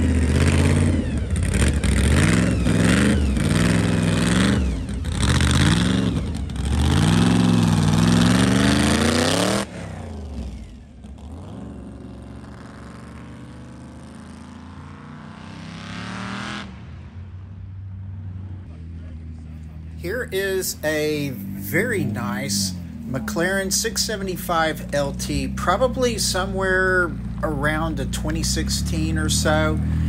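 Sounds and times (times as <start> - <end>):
car accelerating away: 0.0 - 30.0
car engine revving: 0.0 - 30.0.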